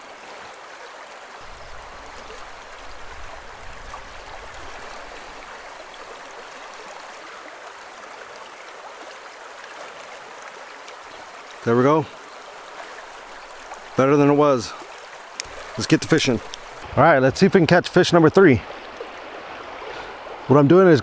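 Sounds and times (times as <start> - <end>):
river rushing over riffles: 0.0 - 17.4.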